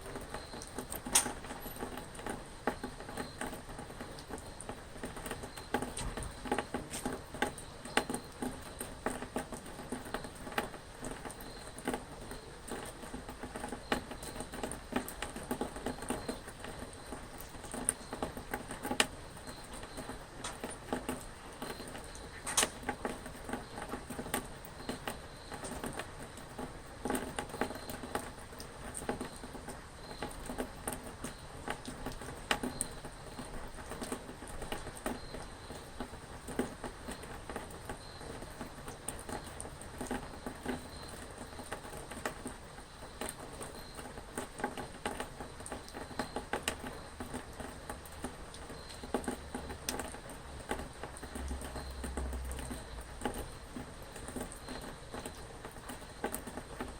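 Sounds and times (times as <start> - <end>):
rain pattering: 0.0 - 56.9.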